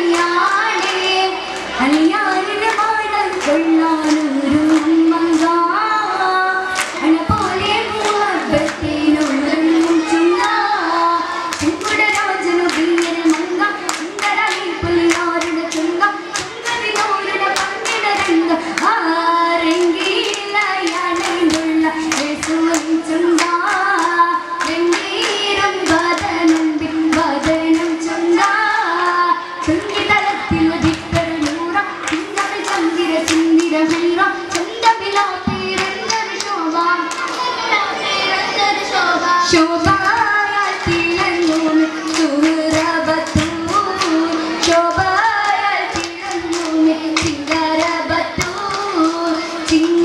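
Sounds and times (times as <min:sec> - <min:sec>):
girls' chorus singing: 0:00.0 - 0:50.0
rhythmic hand-clapping: 0:00.0 - 0:50.0.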